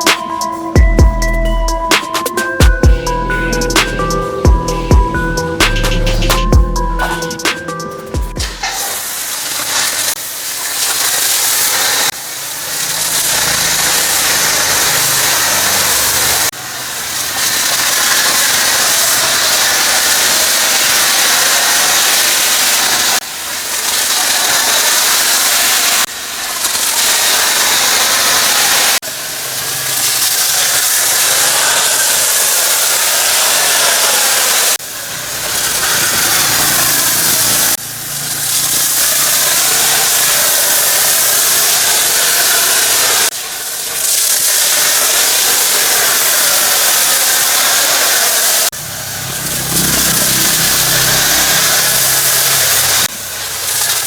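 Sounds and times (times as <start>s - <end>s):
pressure washer spraying: 0.0s - 54.0s.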